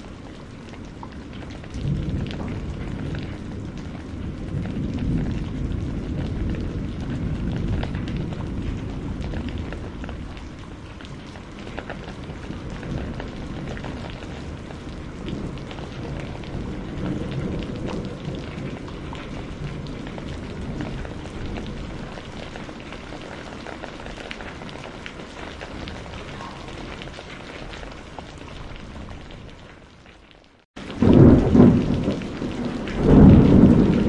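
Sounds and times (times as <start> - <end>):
rolling thunder: 0.0 - 29.6, 30.8 - 34.0
steady rain: 0.0 - 34.0.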